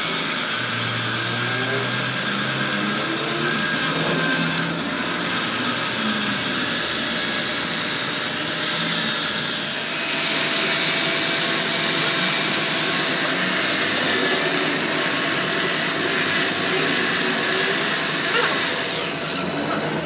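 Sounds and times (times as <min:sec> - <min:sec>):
electric grinder whining: 0:00.0 - 0:20.0.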